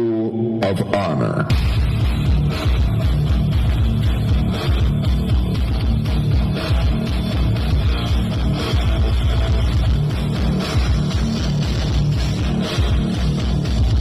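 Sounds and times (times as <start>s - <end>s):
loud bass-heavy music: 0.0s - 14.0s.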